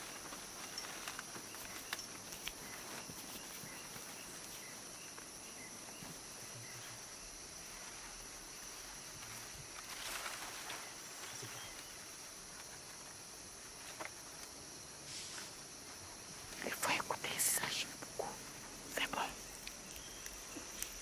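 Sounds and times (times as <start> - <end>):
faint chirps: 0.0 - 13.1, 14.8 - 21.0
insects buzzing: 0.0 - 21.0.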